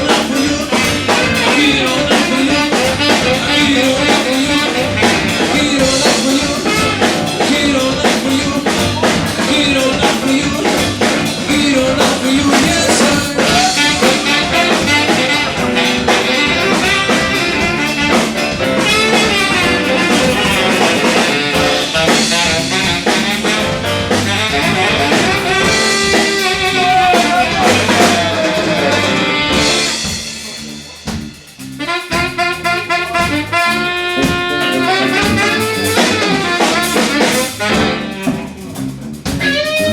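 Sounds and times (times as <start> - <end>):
horn notes: 0.0 - 39.9
live band with drums and brass: 0.0 - 39.9.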